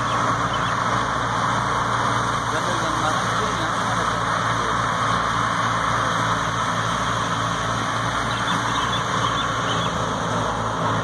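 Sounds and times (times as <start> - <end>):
threshing machine whirring: 0.0 - 11.0
tractor engine hum: 0.0 - 11.0.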